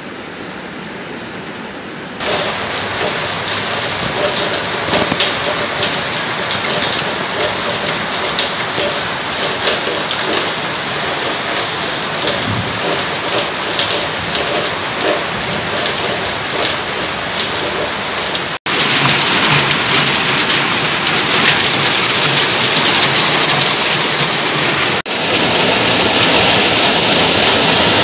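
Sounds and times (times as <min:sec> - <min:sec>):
heavy rain falling: 0:00.1 - 0:28.0
sharp raindrop impacts: 0:02.2 - 0:28.0.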